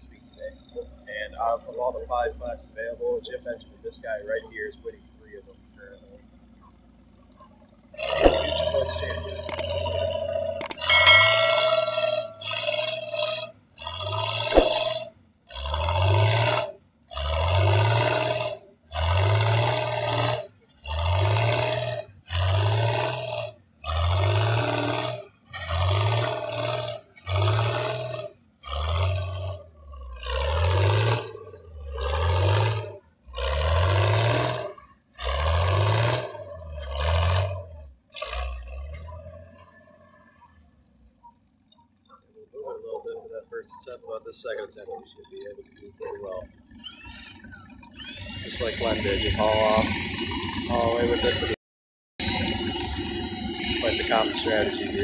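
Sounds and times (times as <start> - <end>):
tractor engine revving: 0.0 - 51.6, 52.2 - 55.0.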